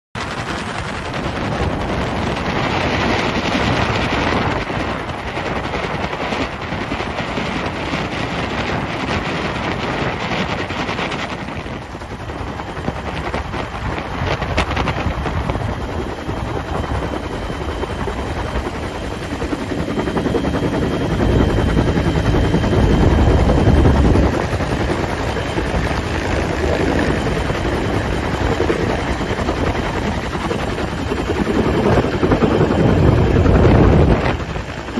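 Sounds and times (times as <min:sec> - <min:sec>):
helicopter rotor and engine: 0:00.2 - 0:34.9.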